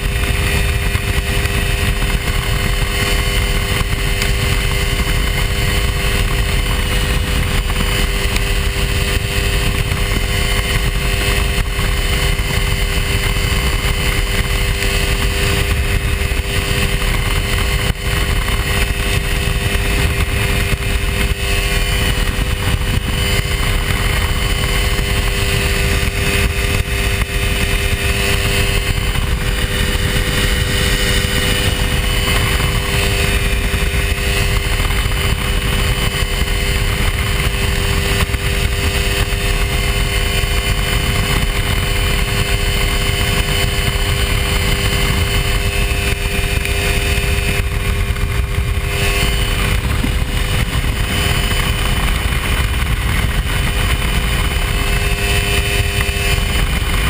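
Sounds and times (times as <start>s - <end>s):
ultralight aircraft engine and propeller: 0.0s - 57.0s.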